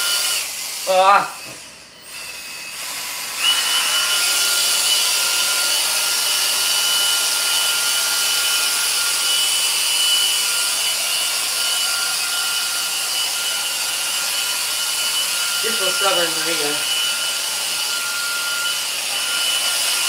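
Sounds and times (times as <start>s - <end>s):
small electric motor whirring: 0.0s - 20.0s.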